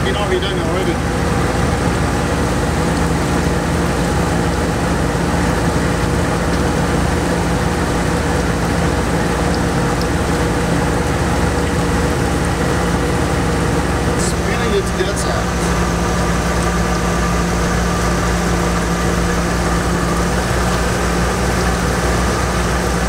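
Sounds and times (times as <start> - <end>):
engine idling: 0.0 - 23.0
water gushing and splashing: 0.0 - 23.0.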